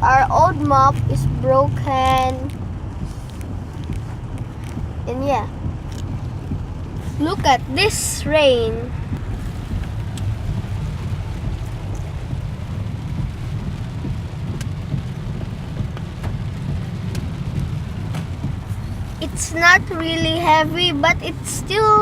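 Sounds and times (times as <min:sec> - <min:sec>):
car engine and tyres rumbling: 0:00.0 - 0:22.0
rain on a car: 0:00.0 - 0:22.0.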